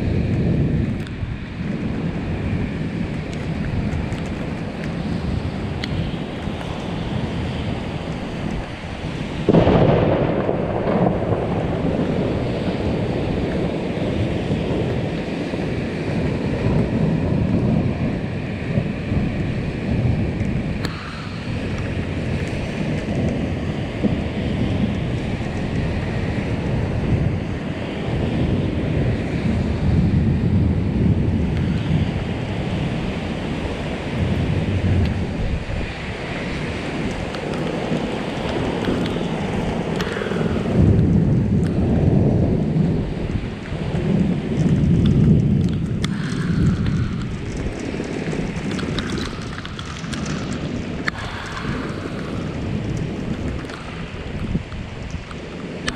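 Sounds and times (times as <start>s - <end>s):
thunder clap and rolling rumble: 0.0s - 55.9s.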